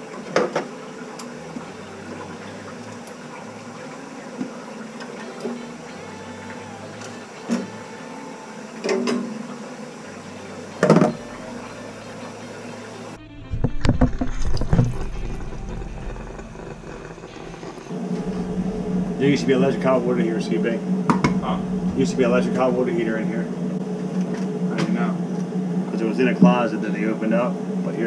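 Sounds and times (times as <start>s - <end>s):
steady low hum: 0.8s - 28.0s.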